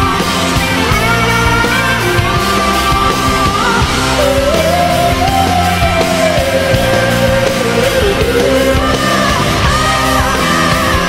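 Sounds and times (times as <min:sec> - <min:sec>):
rock band music: 0:00.0 - 0:11.0
sliding lead guitar melody: 0:00.0 - 0:11.0.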